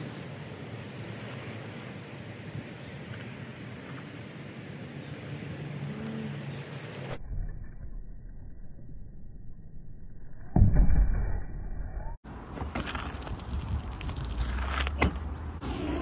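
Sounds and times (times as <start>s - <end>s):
electric unicycle passing: 0.0s - 10.0s, 12.4s - 16.0s.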